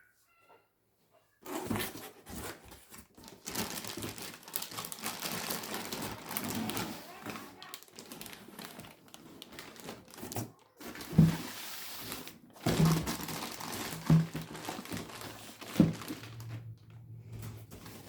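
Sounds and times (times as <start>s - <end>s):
rustling: 1.4s - 18.0s.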